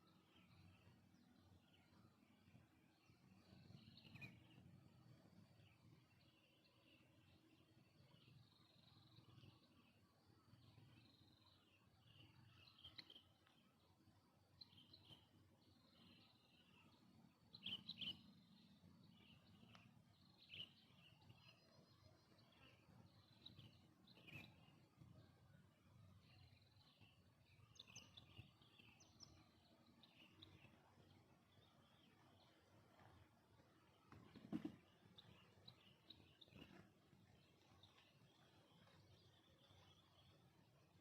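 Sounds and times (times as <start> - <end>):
faint birds chirping: 0.0 - 41.0.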